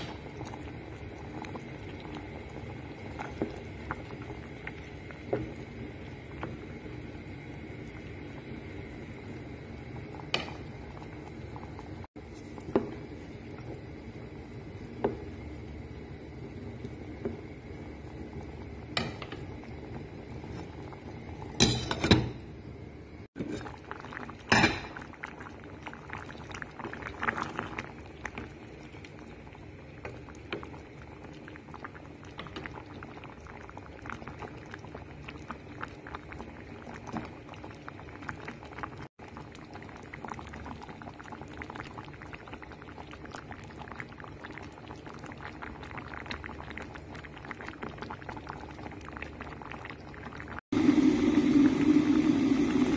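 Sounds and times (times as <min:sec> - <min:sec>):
sauce bubbling in a pot: 0:00.0 - 0:52.9.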